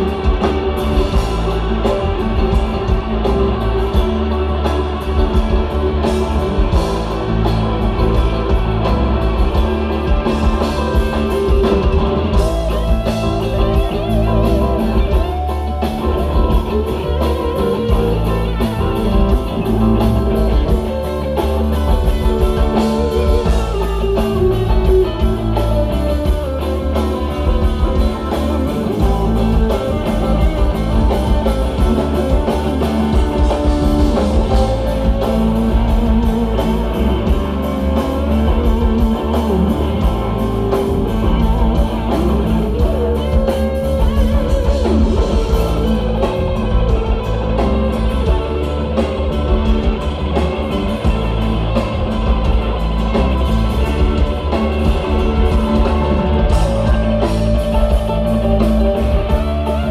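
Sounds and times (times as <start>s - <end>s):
bass guitar: 0.0s - 59.9s
drum kit: 0.0s - 59.9s
electric guitar with pitch bends: 0.0s - 59.9s
keyboard: 0.0s - 59.9s.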